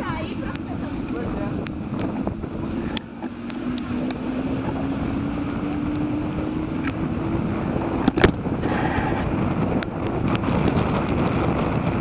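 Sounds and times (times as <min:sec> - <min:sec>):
low hum rising in pitch: 0:00.0 - 0:10.6
wind rushing over microphone: 0:00.0 - 0:12.0.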